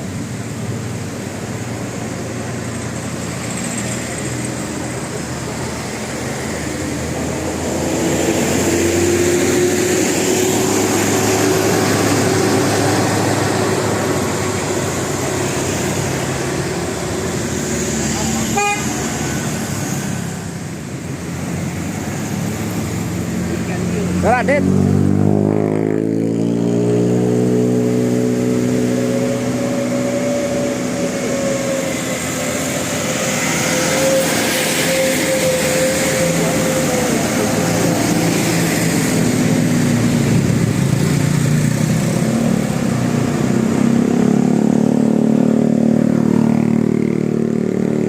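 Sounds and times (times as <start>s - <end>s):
bus engine running: 0.0s - 25.3s, 27.7s - 48.0s
road noise hiss: 0.0s - 48.0s.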